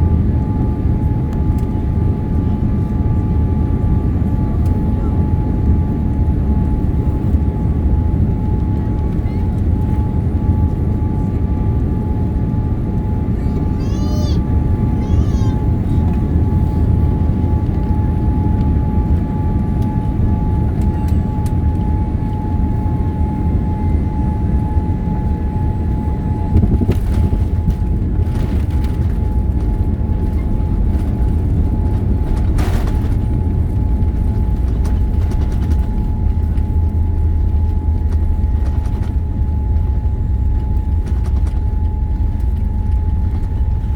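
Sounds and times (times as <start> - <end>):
airplane cabin rumble: 0.0 - 43.9
steady whine: 0.0 - 43.9.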